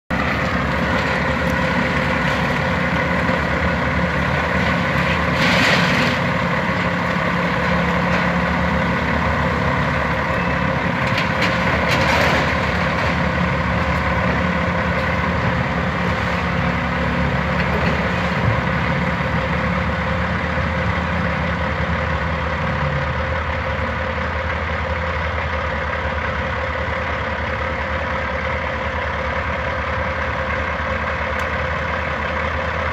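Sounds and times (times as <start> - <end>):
excavator working: 0.1 - 32.9
truck idling: 0.1 - 32.9.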